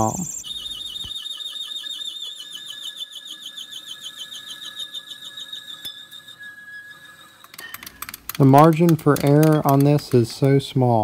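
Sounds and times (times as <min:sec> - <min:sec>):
lathe cutting metal whine: 0:00.0 - 0:08.9.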